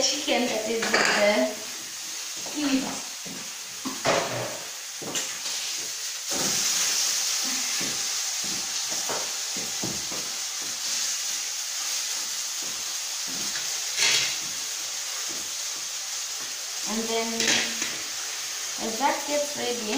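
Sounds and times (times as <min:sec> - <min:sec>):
meat sizzling in a frying pan: 0:00.0 - 0:19.9.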